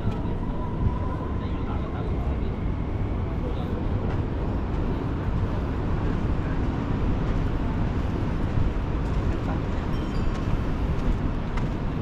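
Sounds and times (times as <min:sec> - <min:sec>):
city background rumble: 0:00.0 - 0:12.0.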